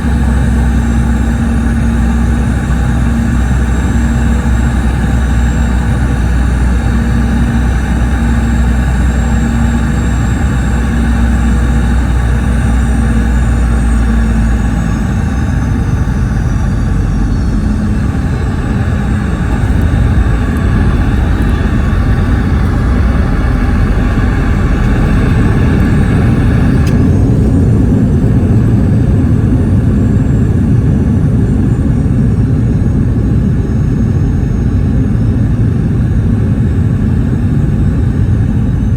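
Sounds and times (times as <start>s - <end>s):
aircraft cabin rumble with engine whine: 0.0s - 38.9s.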